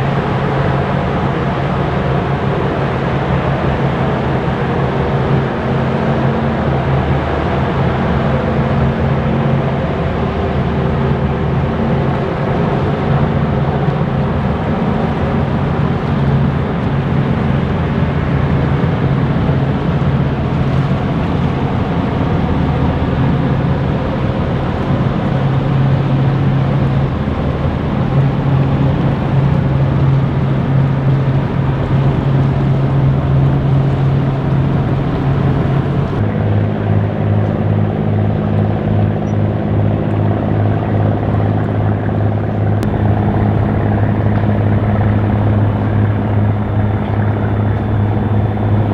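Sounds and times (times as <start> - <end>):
ship diesel engines droning: 0.0 - 48.9.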